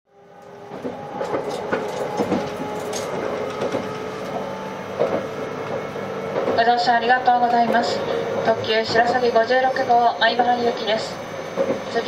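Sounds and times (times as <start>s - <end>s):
train interior hum: 0.1s - 12.0s.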